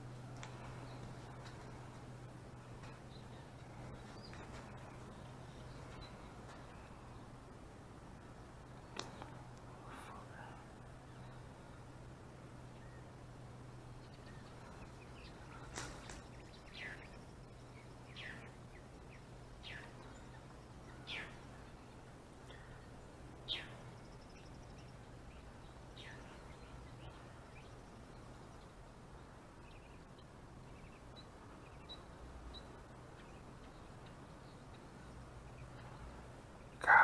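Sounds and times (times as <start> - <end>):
bird chirping: 0.0 - 7.4, 13.8 - 37.0
faint low hum: 0.0 - 37.0.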